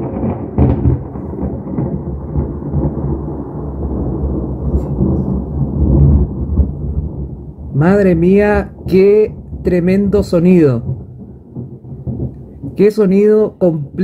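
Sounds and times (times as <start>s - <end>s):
thunder cracking and rumbling: 0.0s - 14.0s.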